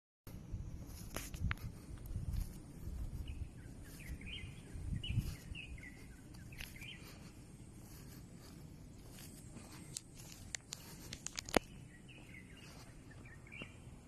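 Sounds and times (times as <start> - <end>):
small birds chirping: 0.3 - 14.0
steady low rumble: 0.3 - 14.0.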